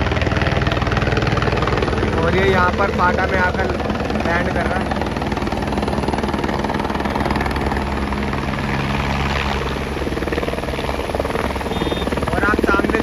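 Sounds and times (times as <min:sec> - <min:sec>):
helicopter rotor and turbine: 0:00.0 - 0:13.0.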